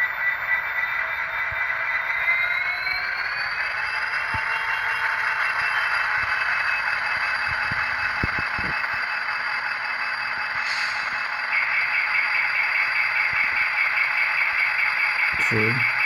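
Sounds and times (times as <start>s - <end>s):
diesel engine through small speaker: 0.0s - 9.6s, 10.2s - 16.0s.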